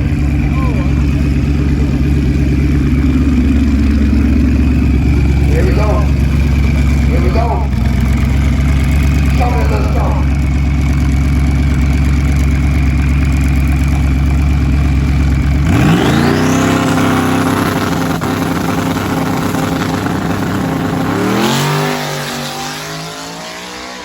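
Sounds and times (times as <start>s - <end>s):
high turbo whine: 0.0s - 24.0s
loud racing car engine: 0.0s - 24.0s.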